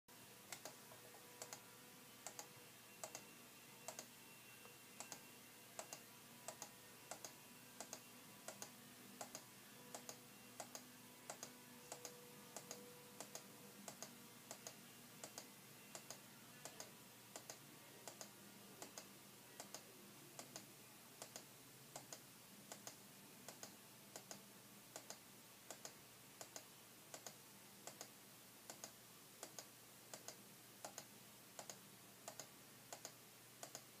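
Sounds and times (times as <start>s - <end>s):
faint steady hum: 0.1s - 34.0s
computer mouse clicks: 0.5s - 4.1s, 5.0s - 33.9s.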